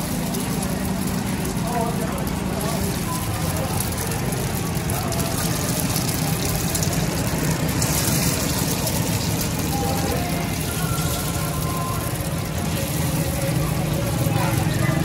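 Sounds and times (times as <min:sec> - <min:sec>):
oil sizzling on griddle: 0:00.0 - 0:15.0.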